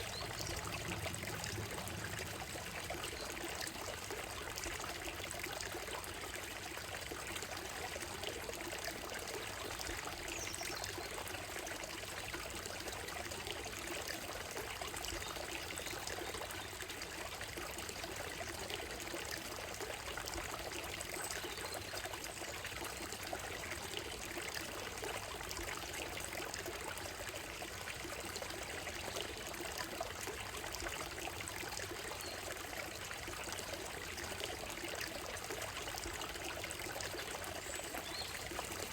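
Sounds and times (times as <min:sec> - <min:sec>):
stream flowing over gravel: 0:00.0 - 0:38.9.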